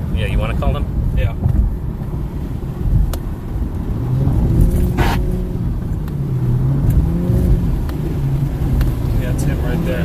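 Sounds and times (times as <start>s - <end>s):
car engine accelerating: 1.6s - 10.0s.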